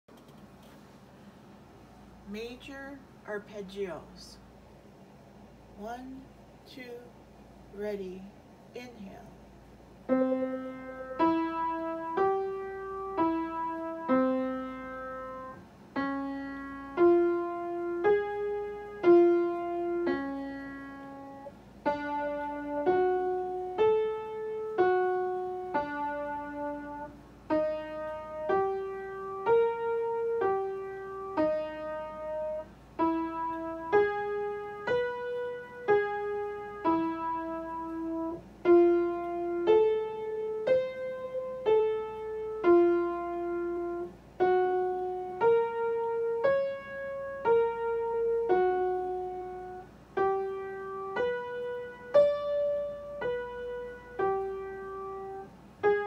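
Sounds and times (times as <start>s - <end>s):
piano arpeggios: 10.1s - 56.0s.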